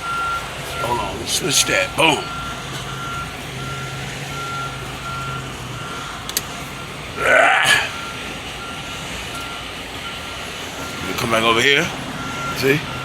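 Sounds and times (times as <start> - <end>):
low engine hum: 0.0 - 13.0
reversing alarm beeping: 0.0 - 13.0.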